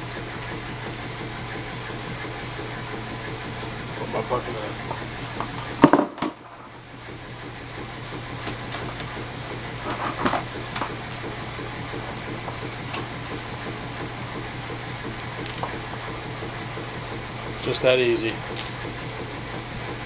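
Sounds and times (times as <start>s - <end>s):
power drill running: 0.0s - 20.0s.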